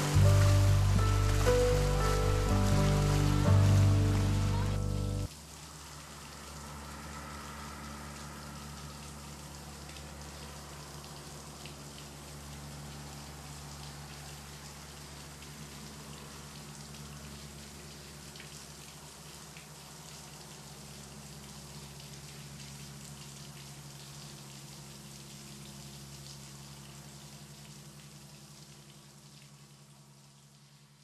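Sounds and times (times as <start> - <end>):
water pattering and rushing: 0.0 - 30.7
low steady hum: 0.0 - 31.0.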